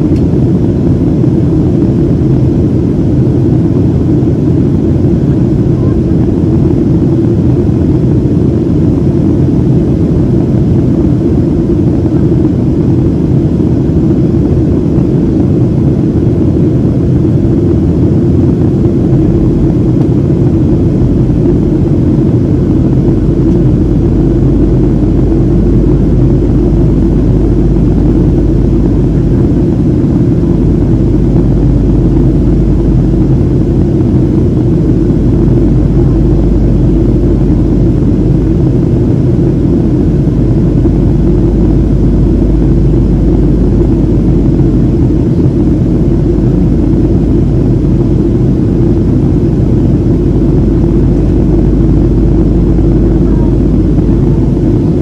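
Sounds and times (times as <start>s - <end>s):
jet engine low rumble: 0.0s - 55.0s
rushing air: 6.1s - 55.0s.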